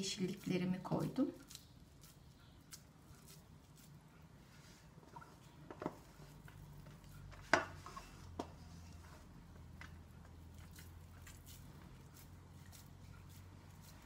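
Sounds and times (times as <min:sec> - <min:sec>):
hands squeezing soft mixture: 0:00.0 - 0:14.0.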